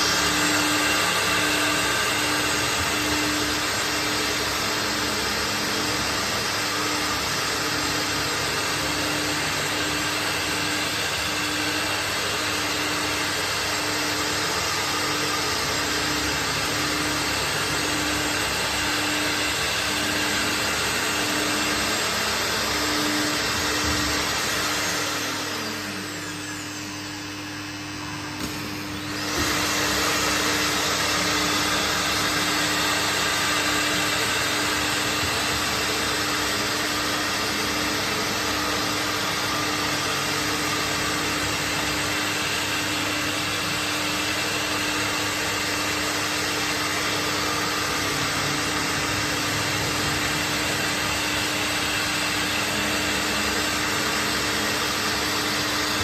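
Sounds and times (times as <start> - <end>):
woodworking machinery whirring: 0.0 - 56.0.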